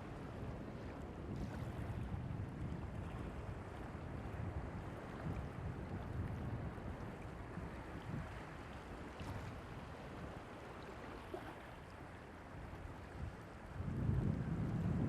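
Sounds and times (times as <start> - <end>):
wind buffeting microphone: 0.0 - 10.7, 12.1 - 15.0
surf on a beach: 0.0 - 15.0.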